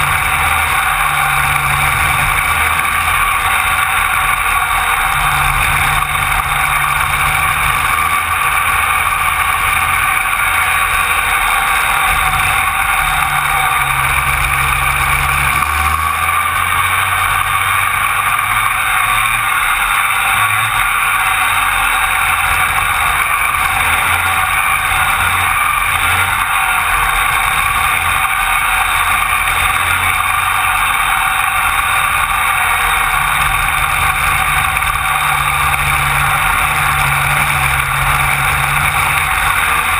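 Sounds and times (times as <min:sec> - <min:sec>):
kart engines racing: 0:00.0 - 0:39.9.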